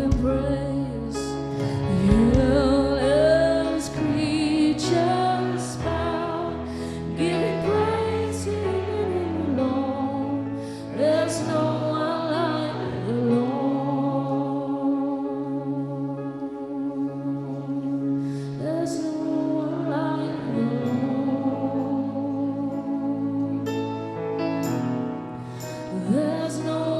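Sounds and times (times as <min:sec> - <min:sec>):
woman singing gospel: 0:00.0 - 0:23.6, 0:25.9 - 0:26.9
held keyboard chords: 0:00.0 - 0:26.9.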